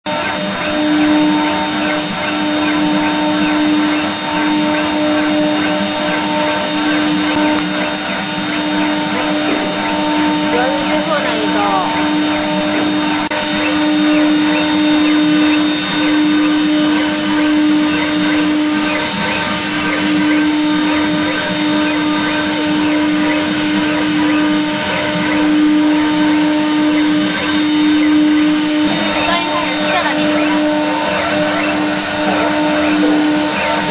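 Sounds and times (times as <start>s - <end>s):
router spindles whining: 0.1s - 33.9s.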